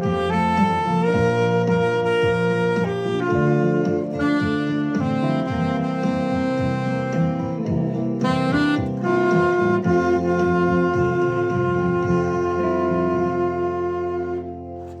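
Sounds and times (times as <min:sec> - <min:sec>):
alto saxophone playing: 0:00.0 - 0:15.0
backing accompaniment: 0:00.0 - 0:15.0.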